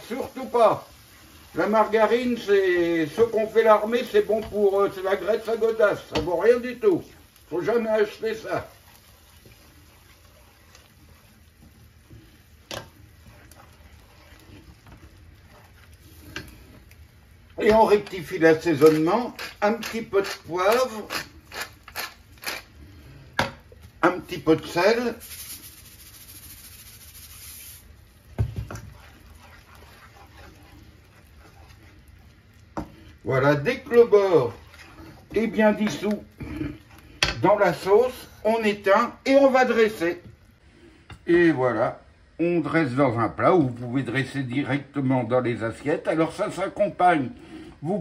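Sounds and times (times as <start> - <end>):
wooden spatula scraping pan: 0.0 - 40.2
sauce simmering: 0.0 - 41.3.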